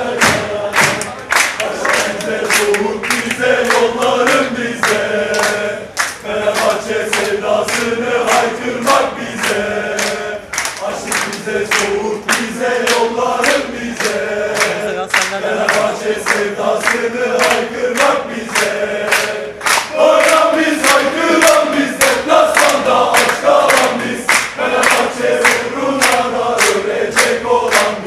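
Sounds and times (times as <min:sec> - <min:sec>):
crowd chanting in unison: 0:00.0 - 0:28.0
sharp rhythmic beats: 0:00.0 - 0:28.0.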